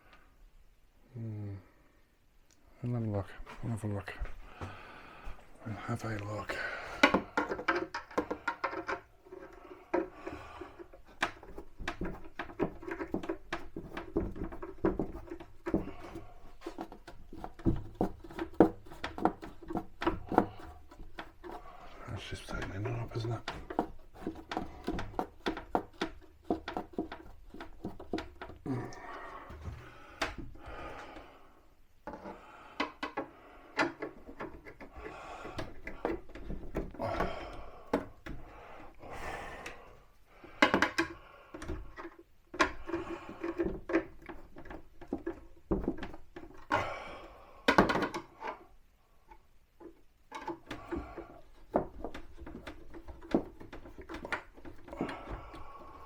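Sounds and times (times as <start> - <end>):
wooden cabinet knocks and scrapes: 6.1 - 31.2, 32.1 - 39.0, 40.6 - 46.9, 47.7 - 48.6, 49.8 - 56.0.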